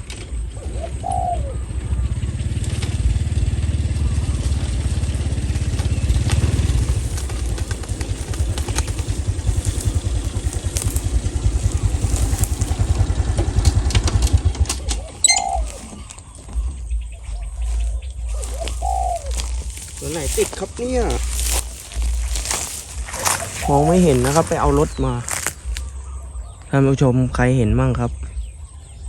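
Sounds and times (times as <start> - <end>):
dove cooing: 0.0 - 2.6, 3.4 - 26.7
low pulsing rumble: 0.0 - 29.0.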